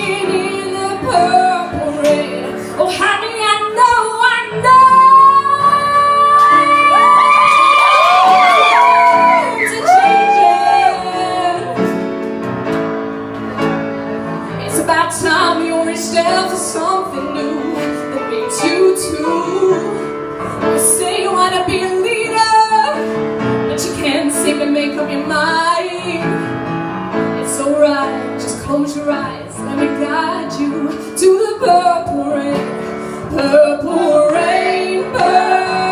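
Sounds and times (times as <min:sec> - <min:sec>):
woman singing: 0:00.0 - 0:12.0, 0:14.6 - 0:20.1, 0:20.8 - 0:23.1, 0:23.7 - 0:26.5, 0:27.4 - 0:35.9
piano accompaniment: 0:00.0 - 0:35.9.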